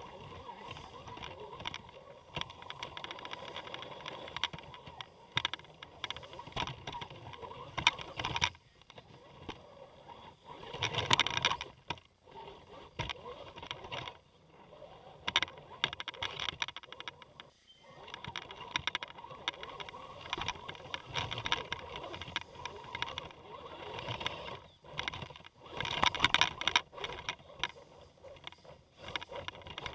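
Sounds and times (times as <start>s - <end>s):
clicks and scrapes on rocks: 0.0s - 29.9s
electric motor and gears whining: 0.0s - 29.9s.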